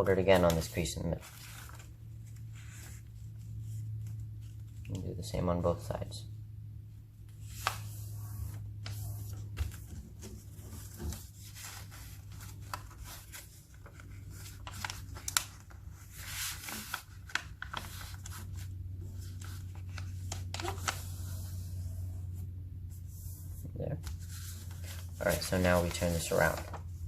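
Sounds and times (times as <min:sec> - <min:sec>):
paper folding rustles and crackles: 0:00.0 - 0:05.5, 0:07.4 - 0:21.9, 0:23.5 - 0:27.0
steady low hum: 0:00.0 - 0:27.0.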